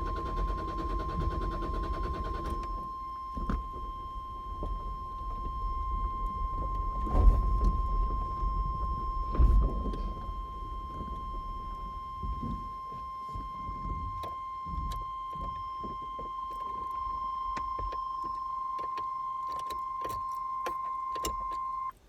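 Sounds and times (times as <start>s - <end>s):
high-pitched electronic tone: 0.0s - 21.9s.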